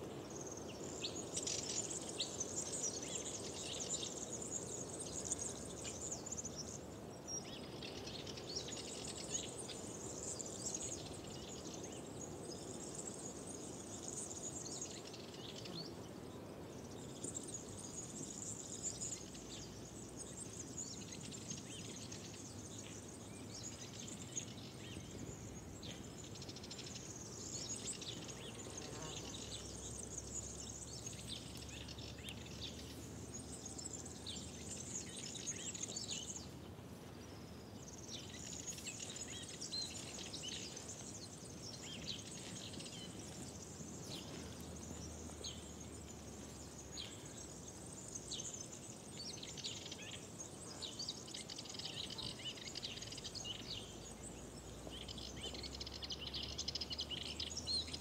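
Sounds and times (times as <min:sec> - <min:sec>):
faint steady background noise: 0:00.0 - 0:58.0
small birds chirping: 0:00.0 - 0:58.0.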